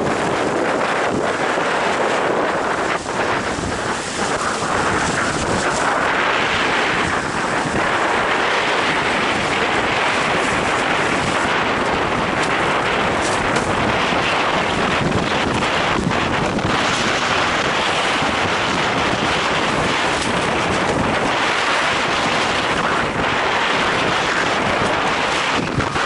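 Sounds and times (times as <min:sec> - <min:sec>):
water rushing and splashing: 0:00.0 - 0:26.0
wind buffeting microphone: 0:00.0 - 0:26.0.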